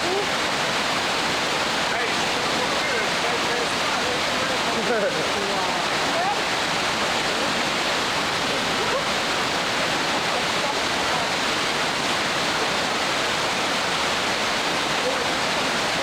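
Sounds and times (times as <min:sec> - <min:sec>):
river rapids roaring: 0:00.0 - 0:16.0.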